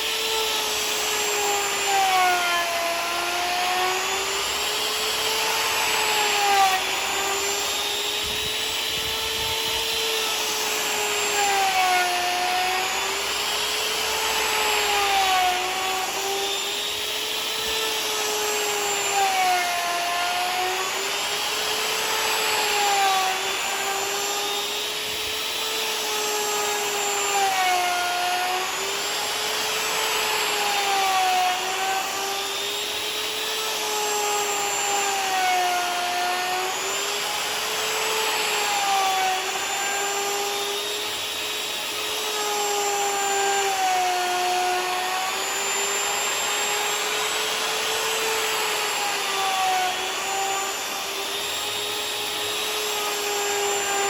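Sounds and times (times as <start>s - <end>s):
electric router whining: 0.0s - 54.0s.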